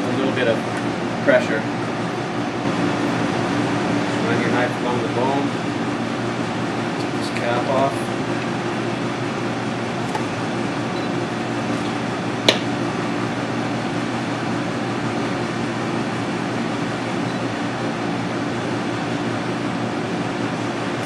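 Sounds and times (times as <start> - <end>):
kitchen ventilation hum: 0.0 - 21.0.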